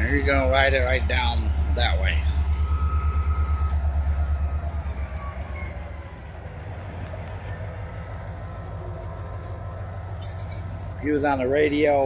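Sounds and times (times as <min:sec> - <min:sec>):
diesel locomotive engine rumbling: 0:00.0 - 0:12.0
thin high whine: 0:00.0 - 0:12.0.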